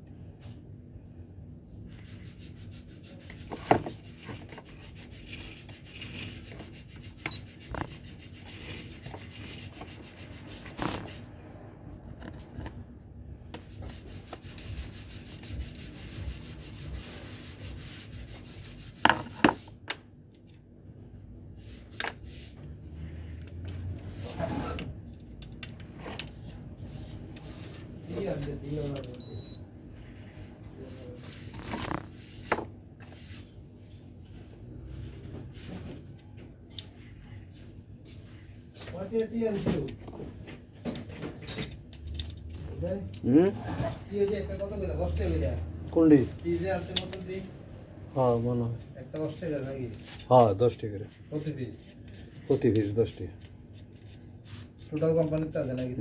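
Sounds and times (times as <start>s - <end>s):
rubbing and scraping of parts: 1.9s - 11.4s, 12.0s - 20.7s, 21.6s - 29.1s, 30.0s - 56.0s.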